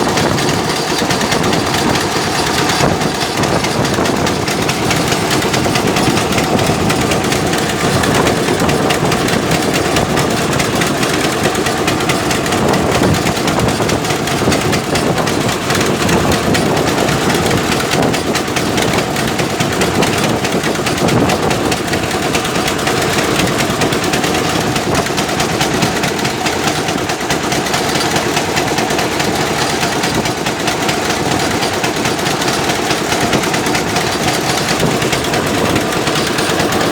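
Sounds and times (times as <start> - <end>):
dense fast rattle: 0.0 - 36.9
heavy machinery engine running: 0.0 - 36.9.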